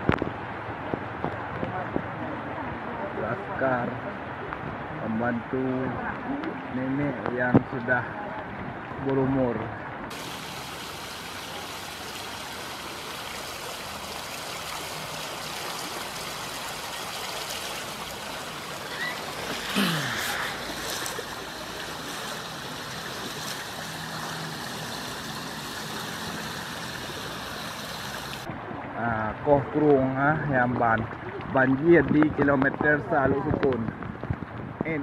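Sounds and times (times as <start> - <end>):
floodwater rushing: 0.3 - 33.3.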